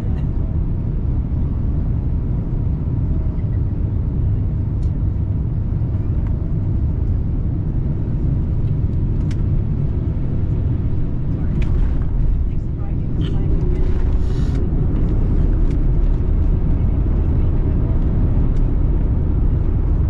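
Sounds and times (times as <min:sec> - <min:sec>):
aircraft cabin rumble: 0:00.0 - 0:20.0.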